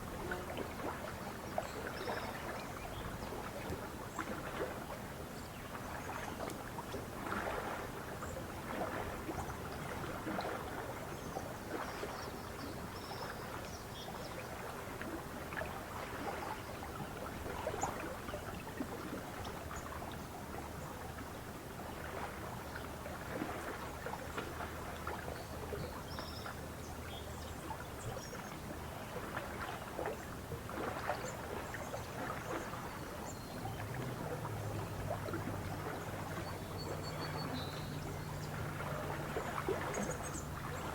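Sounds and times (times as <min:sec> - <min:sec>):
lake water lapping against shore: 0:00.0 - 0:40.9.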